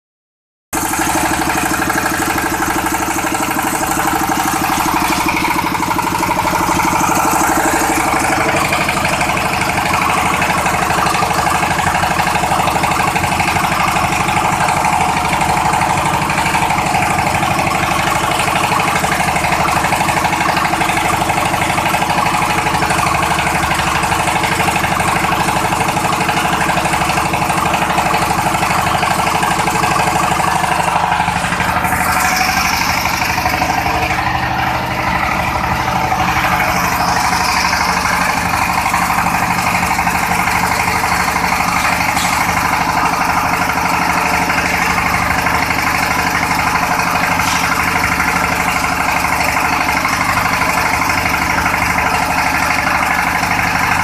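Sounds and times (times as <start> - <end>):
diesel engine firing beat: 0.7 - 54.0.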